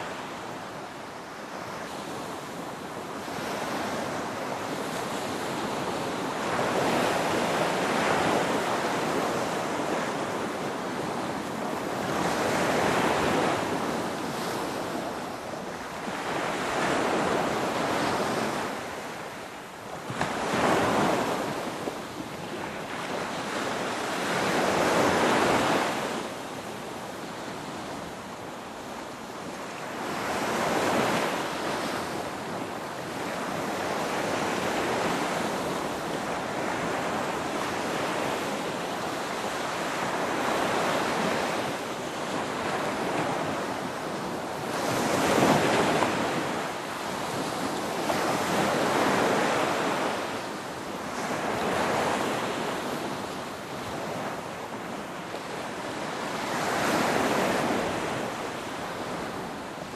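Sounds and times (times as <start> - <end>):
waves breaking and washing back: 0.0 - 59.9.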